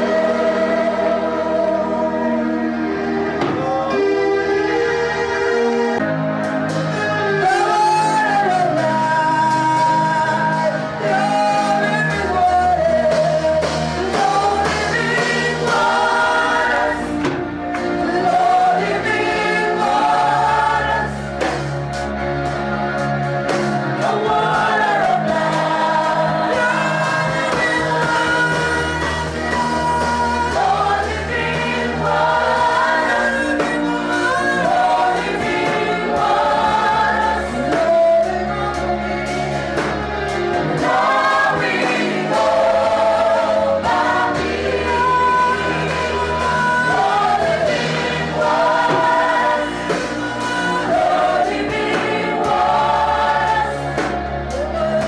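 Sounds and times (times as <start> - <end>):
group singing gospel: 0.0 - 55.0.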